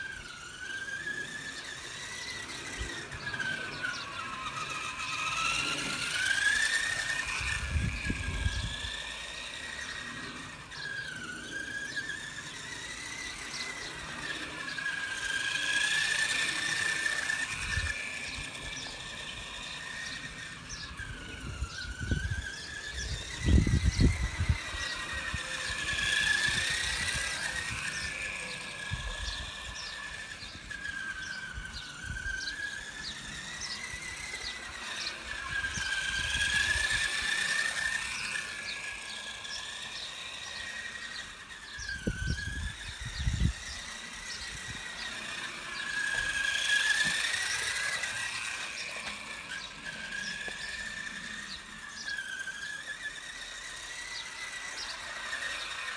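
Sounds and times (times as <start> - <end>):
toy car motor whine: 0.0 - 55.9.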